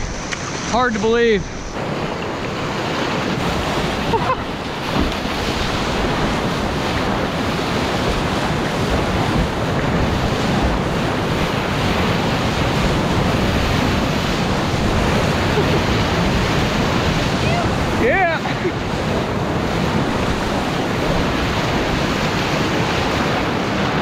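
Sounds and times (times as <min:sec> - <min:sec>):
river whitewater rushing: 0:00.0 - 0:24.0
wind buffeting microphone: 0:00.0 - 0:24.0.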